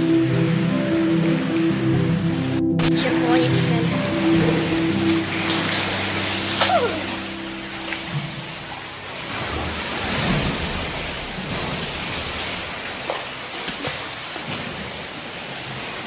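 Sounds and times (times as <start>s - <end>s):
sea water sloshing against rock: 3.0s - 16.0s.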